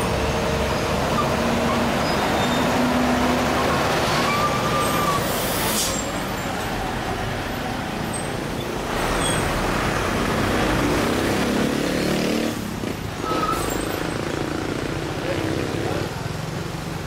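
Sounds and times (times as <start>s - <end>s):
diesel truck engine labouring: 0.0s - 16.3s
traffic noise: 0.0s - 17.0s.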